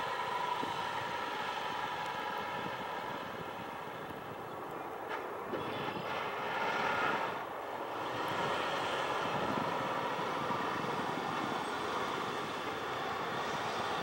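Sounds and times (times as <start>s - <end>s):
jet engines rushing hum: 0.0s - 14.0s.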